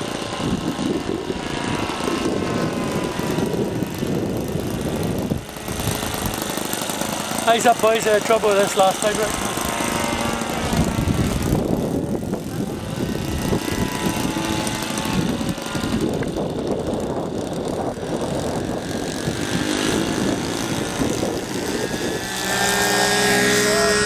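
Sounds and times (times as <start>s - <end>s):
model airplane engine droning: 0.0s - 24.0s.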